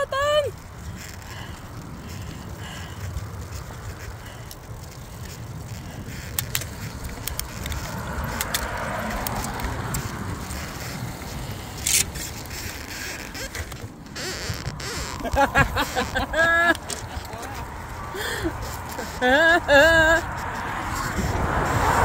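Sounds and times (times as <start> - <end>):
bicycle clicks and rattles: 0.0 - 22.0
road noise: 0.0 - 22.0
wind rumble on microphone: 0.0 - 22.0.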